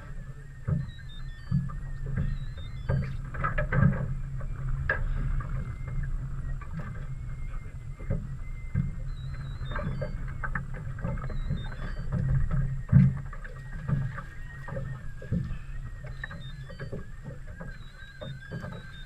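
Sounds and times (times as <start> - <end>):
boat knocking: 0.0 - 19.0
steady low hum: 0.0 - 19.0
water sloshing: 0.0 - 19.0.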